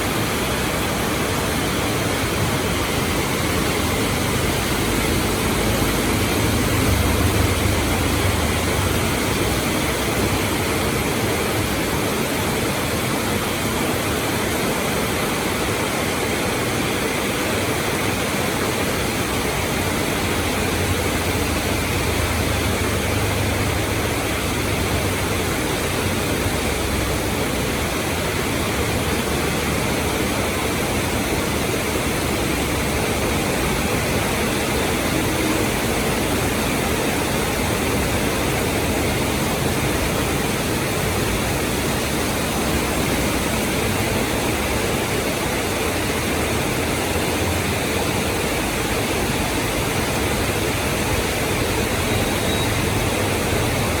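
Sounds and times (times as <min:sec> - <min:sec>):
heavy rain on a road: 0:00.0 - 0:54.0
low rumble of traffic: 0:00.0 - 0:54.0.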